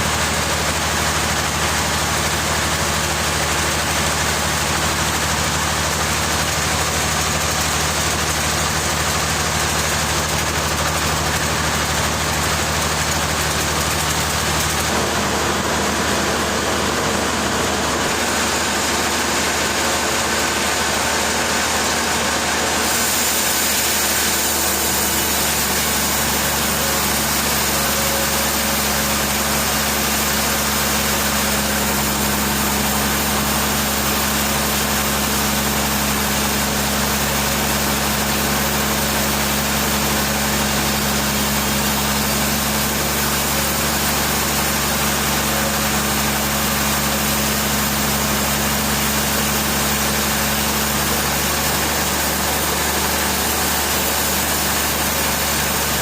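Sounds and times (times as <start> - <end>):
machinery engine running: 0.0 - 56.0.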